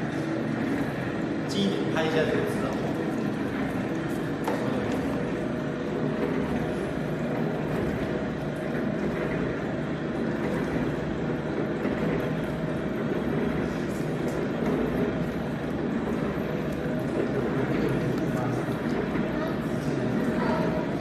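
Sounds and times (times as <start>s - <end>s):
juicing machine running: 0.0s - 21.0s.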